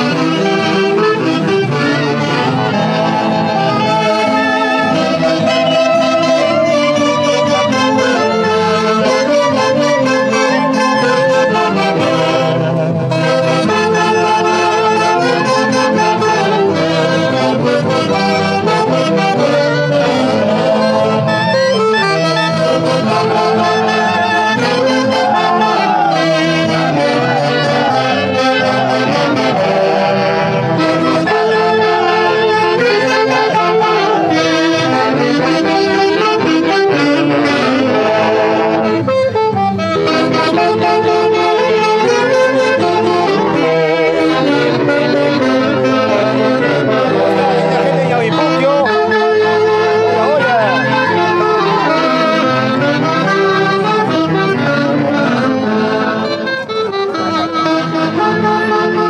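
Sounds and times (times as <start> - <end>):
brass band playing folk dance: 0.0 - 59.0.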